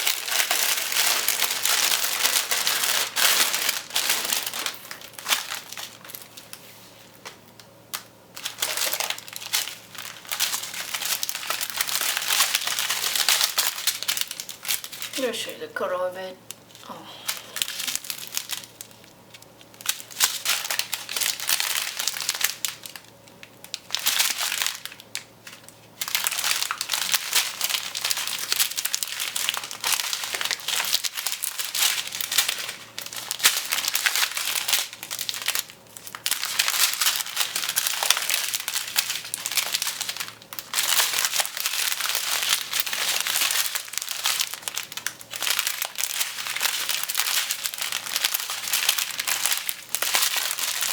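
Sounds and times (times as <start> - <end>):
plastic bags crinkling: 0.0 - 50.9.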